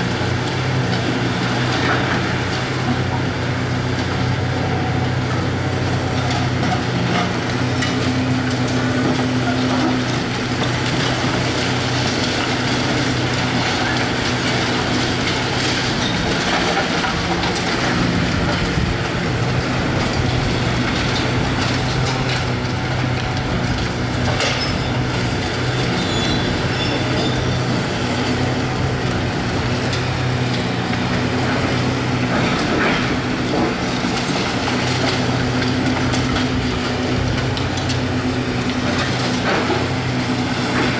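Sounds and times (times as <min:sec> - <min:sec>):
excavator diesel engine running: 0:00.0 - 0:40.9
demolition knocks and crunches: 0:06.2 - 0:40.9.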